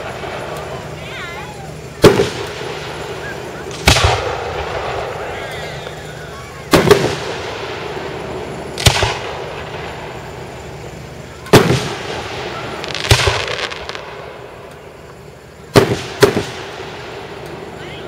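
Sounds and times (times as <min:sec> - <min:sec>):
firework booms: 0:00.0 - 0:18.0.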